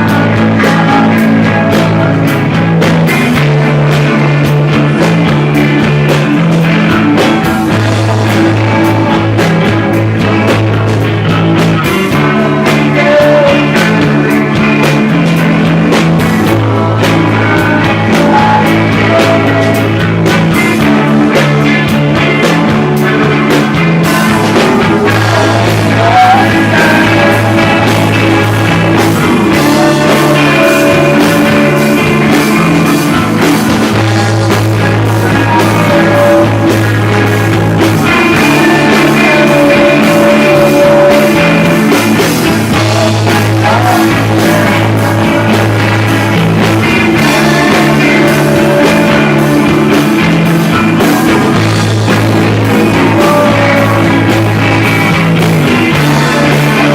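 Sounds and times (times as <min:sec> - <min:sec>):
bass guitar: 0:00.0 - 0:56.9
drums: 0:00.0 - 0:56.9
electric guitar: 0:00.0 - 0:56.9
person singing: 0:00.0 - 0:56.9.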